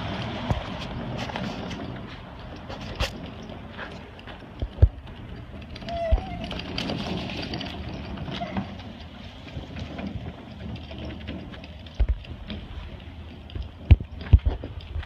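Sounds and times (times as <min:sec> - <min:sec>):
wagon sharp knocks: 0:00.0 - 0:14.9
wagon wheels rattling: 0:00.0 - 0:15.0.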